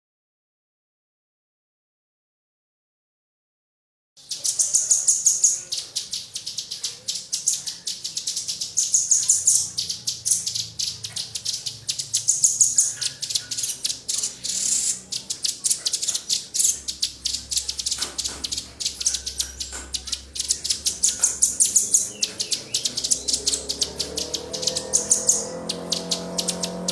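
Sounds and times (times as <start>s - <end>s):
songbirds chirping: 4.2s - 26.9s.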